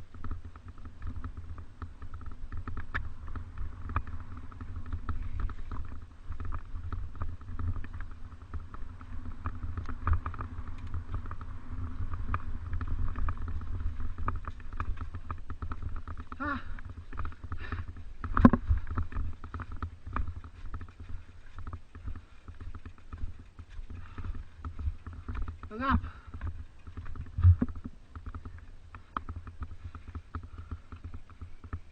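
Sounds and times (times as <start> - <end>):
bike rattles and clicks: 0.0 - 31.9
wind buffeting microphone: 0.0 - 31.9.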